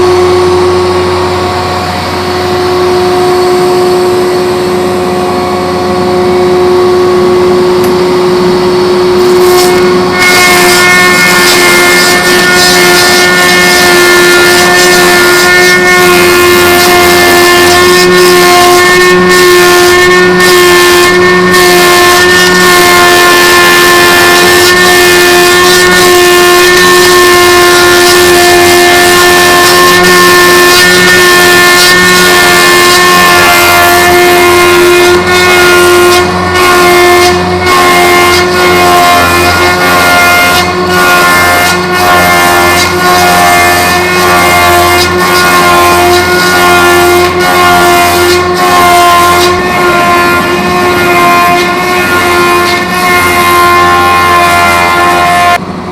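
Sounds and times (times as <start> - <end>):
motor whine: 0.0 - 55.9
cutter cutting log: 9.3 - 55.6.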